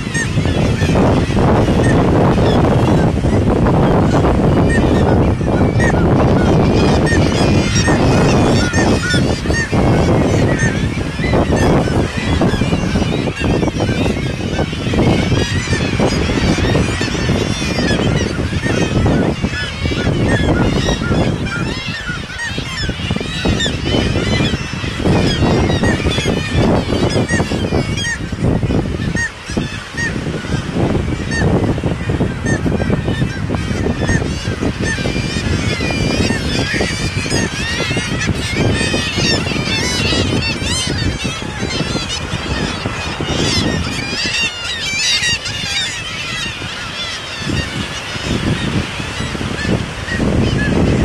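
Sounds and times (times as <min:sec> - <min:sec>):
seabird colony calling: 0:00.0 - 0:51.0.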